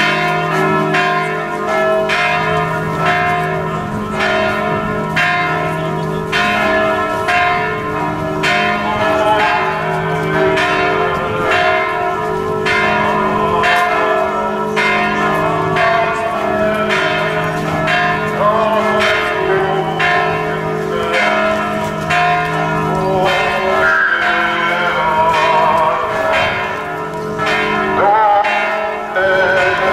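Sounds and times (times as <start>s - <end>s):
church bells ringing: 0.0s - 29.9s.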